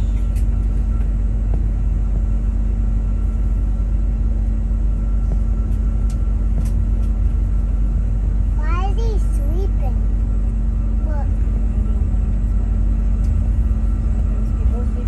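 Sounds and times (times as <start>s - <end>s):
jet engines rumbling: 0.0s - 15.0s
steady hum: 0.0s - 15.0s.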